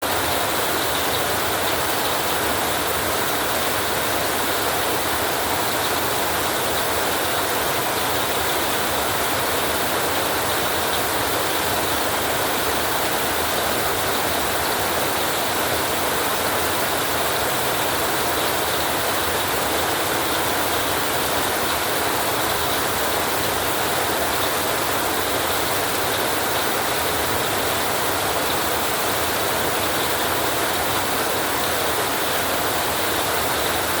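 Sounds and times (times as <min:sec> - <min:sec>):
rain on a tin roof: 0:00.0 - 0:34.0.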